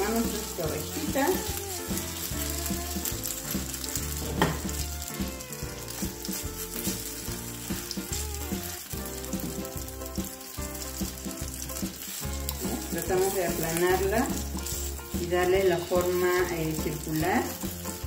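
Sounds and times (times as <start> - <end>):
patty sizzling in hot oil: 0.0 - 18.0.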